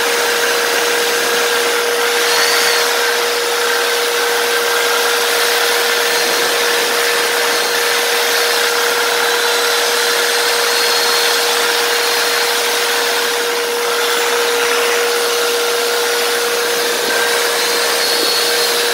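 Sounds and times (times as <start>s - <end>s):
electric saw cutting cast iron: 0.0s - 18.9s.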